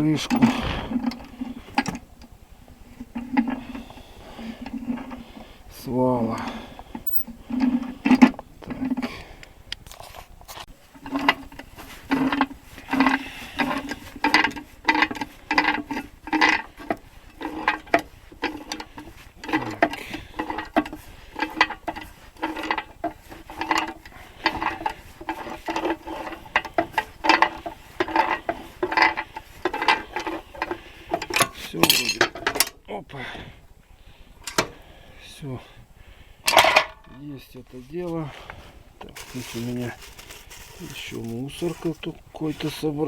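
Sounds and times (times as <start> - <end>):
wrench scraping and creaking metal: 0.0 - 32.8, 39.0 - 43.0.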